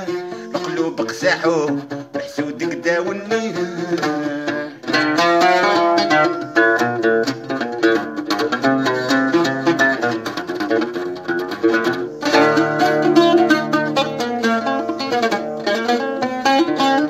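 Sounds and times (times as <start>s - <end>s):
lute picked melody over strummed chords: 0.0s - 17.0s.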